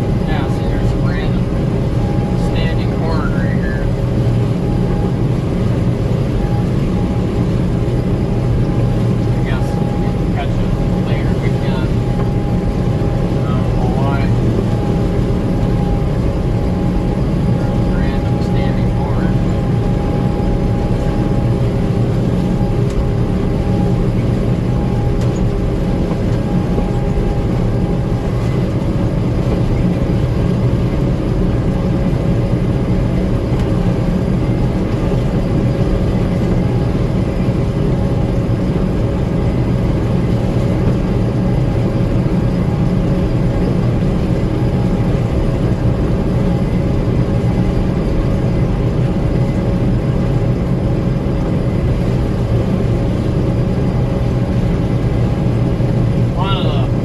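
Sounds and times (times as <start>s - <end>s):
combine harvester drone: 0.0s - 57.0s
faint steady whine: 0.0s - 57.0s.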